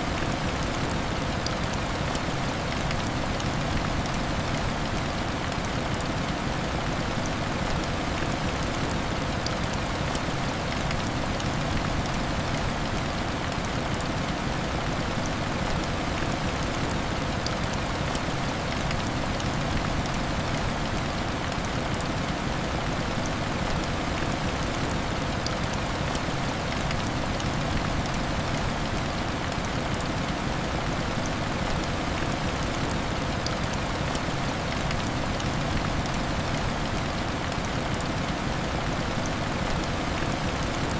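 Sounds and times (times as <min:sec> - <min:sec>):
heavy rain on window glass: 0:00.1 - 0:40.9.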